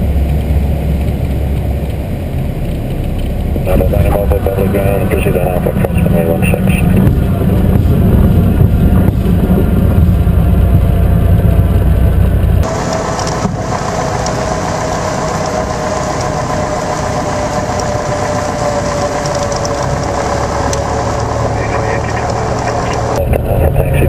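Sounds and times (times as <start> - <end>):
aircraft engine and propeller: 0.0 - 24.0.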